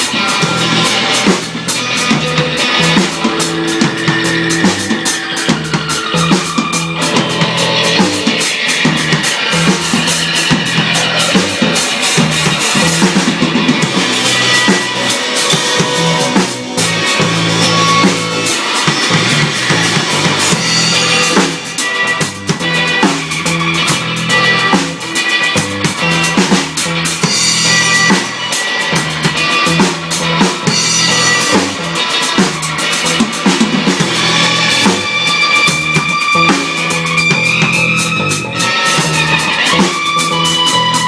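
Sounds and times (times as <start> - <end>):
drum kit playing: 0.0 - 41.0
guitar: 0.0 - 41.0.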